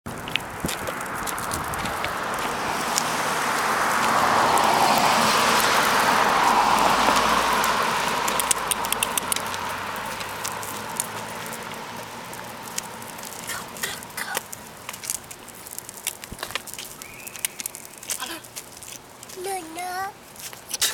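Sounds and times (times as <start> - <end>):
car passing: 0.1 - 18.5.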